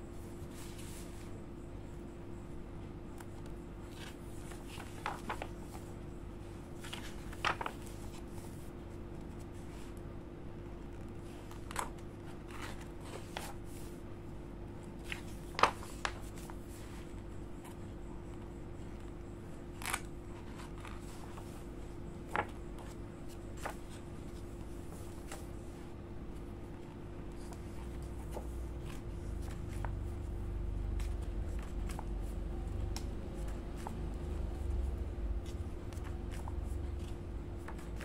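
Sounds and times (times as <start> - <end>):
faint steady hum: 0.0 - 38.0
book pages turning: 0.3 - 1.4, 3.1 - 10.0, 10.8 - 14.0, 14.9 - 19.0, 19.7 - 25.8, 26.7 - 38.0.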